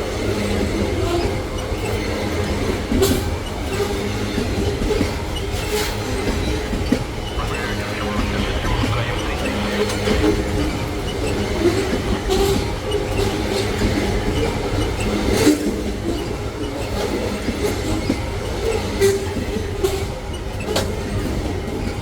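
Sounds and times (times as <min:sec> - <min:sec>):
freight train wagons rumbling: 0:00.0 - 0:22.0.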